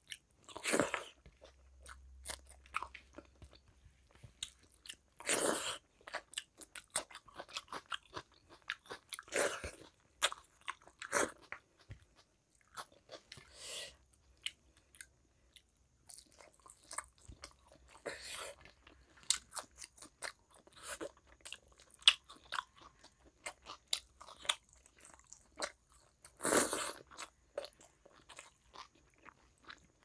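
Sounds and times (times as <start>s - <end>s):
person chewing: 0.0s - 30.0s.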